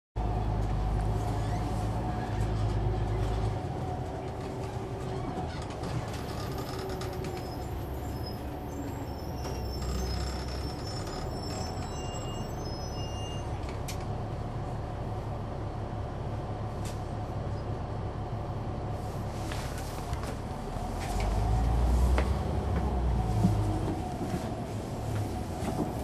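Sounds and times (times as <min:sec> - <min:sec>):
bus diesel engine rumble: 0:00.2 - 0:26.0.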